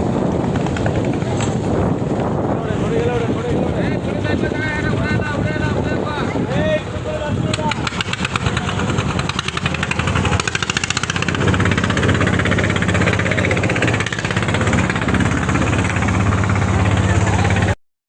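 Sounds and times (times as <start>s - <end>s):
engine knocking and humming: 0.0s - 4.9s, 7.3s - 17.8s.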